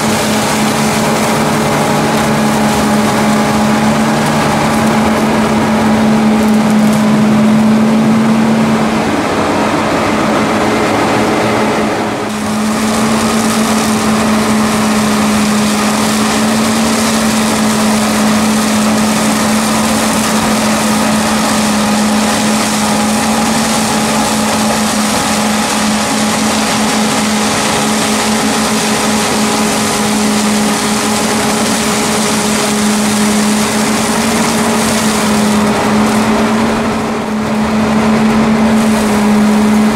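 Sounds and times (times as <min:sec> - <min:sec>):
tractor and mower droning: 0:00.0 - 0:39.9.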